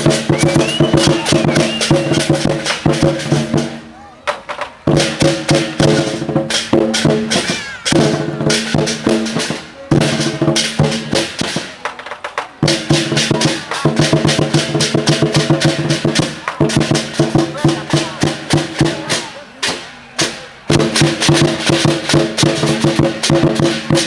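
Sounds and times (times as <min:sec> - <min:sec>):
drums and cymbals: 0:00.0 - 0:24.0.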